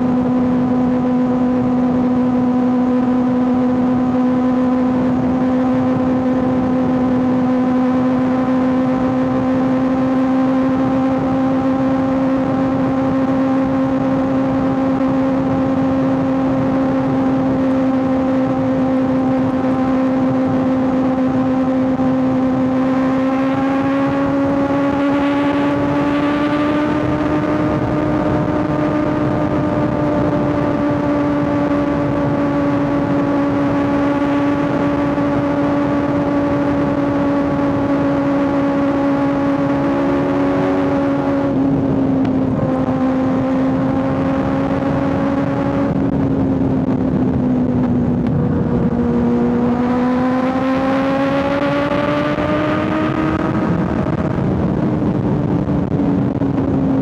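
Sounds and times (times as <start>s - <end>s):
motorcycle engine cruising: 0.0s - 57.0s
wind noise: 0.0s - 57.0s.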